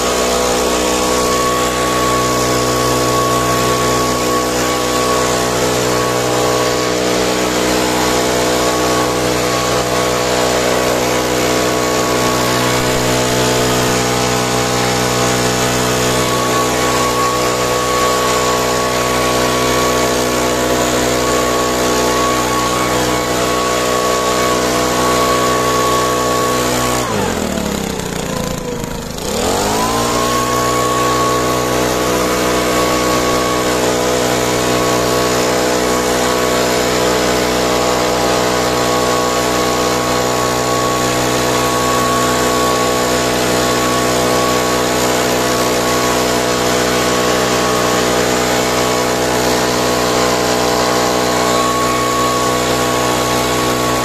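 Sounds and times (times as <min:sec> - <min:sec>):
small petrol engine running: 0:00.0 - 0:54.0.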